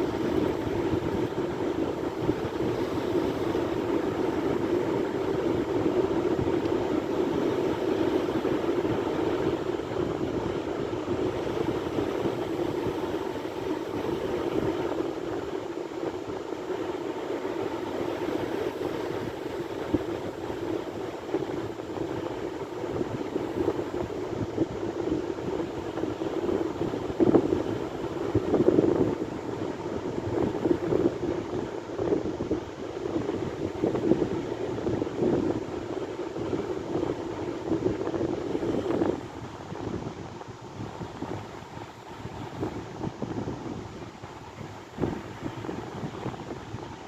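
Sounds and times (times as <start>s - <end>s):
sea waves washing: 0.0s - 46.7s.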